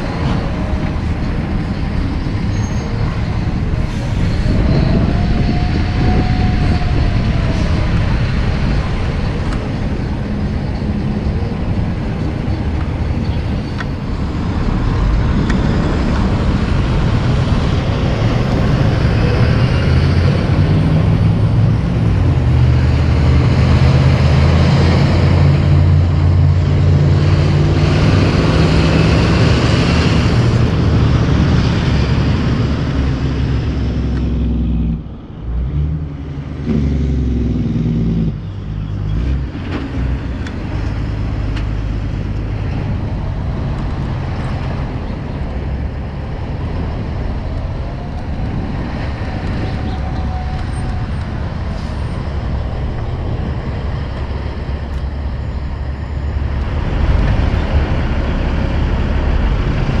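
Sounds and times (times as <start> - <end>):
diesel trucks passing: 0.0 - 60.0
tyre and traffic noise: 0.0 - 60.0.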